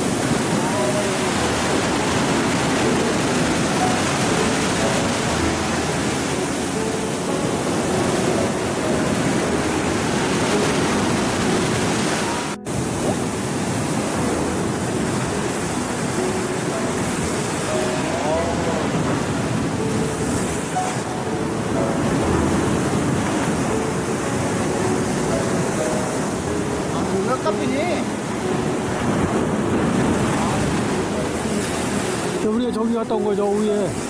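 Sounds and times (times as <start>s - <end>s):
sea surf rushing: 0.0s - 34.0s
wind: 0.0s - 34.0s.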